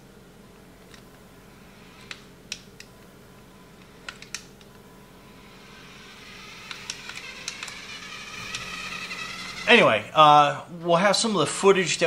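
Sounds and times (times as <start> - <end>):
faint high electric whine: 0.0 - 12.0.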